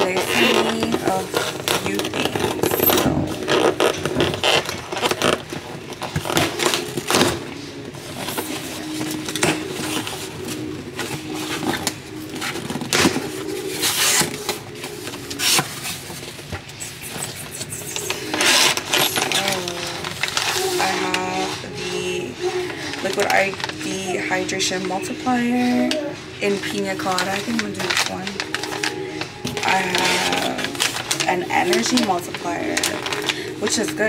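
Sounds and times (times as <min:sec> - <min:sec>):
faint background audio: 0:00.0 - 0:34.0
packaging rustling and tearing: 0:00.0 - 0:34.0.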